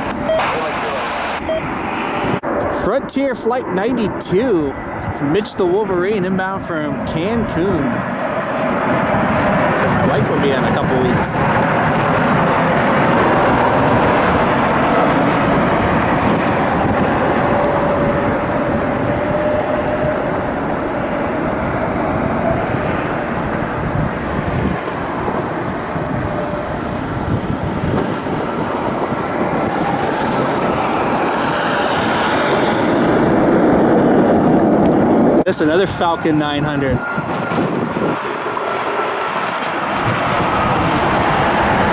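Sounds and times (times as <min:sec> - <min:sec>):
high turbine whine: 0:00.0 - 0:41.9
jet engines rumbling: 0:00.0 - 0:41.9.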